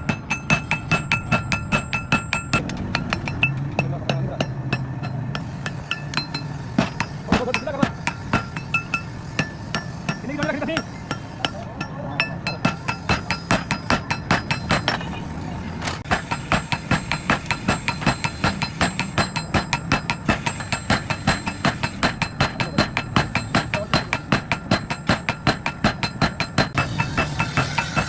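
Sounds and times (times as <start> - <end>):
hammer striking iron on anvil: 0.0 - 15.1, 16.0 - 28.0.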